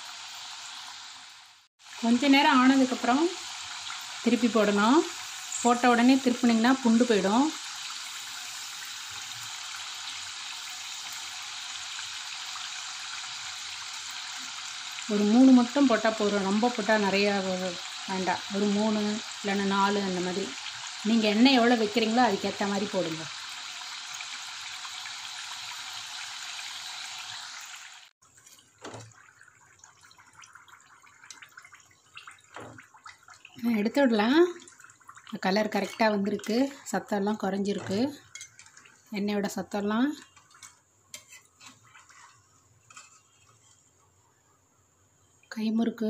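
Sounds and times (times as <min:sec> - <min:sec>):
hot oil sizzling: 0:00.0 - 0:45.6.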